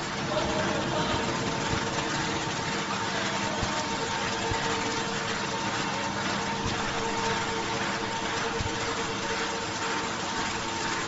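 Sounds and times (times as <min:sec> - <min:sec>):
production line machinery humming: 0:00.0 - 0:11.0.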